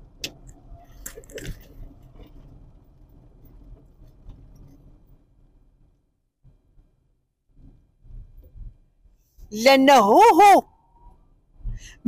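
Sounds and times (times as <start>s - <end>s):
road rumble inside car: 0.0s - 9.6s, 10.6s - 12.0s.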